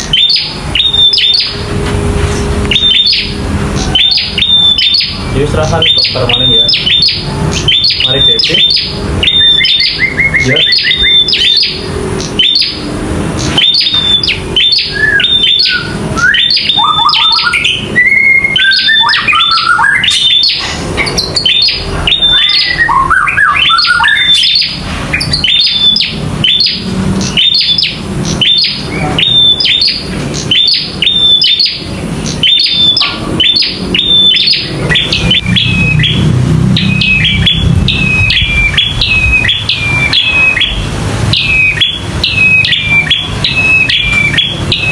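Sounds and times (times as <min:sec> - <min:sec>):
bird sharp repeated chirps: 0:00.0 - 0:44.9
low rising bird twittering: 0:00.0 - 0:44.9.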